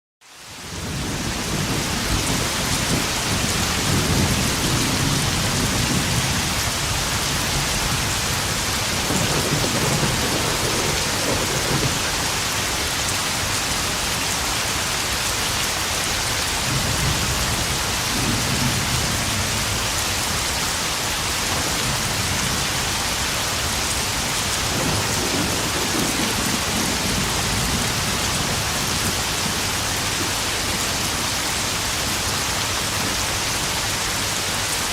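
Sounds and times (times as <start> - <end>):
rain drumming on puddles: 0.4 - 34.9
thunder rumbling: 0.8 - 13.8, 16.6 - 20.0, 21.2 - 33.5.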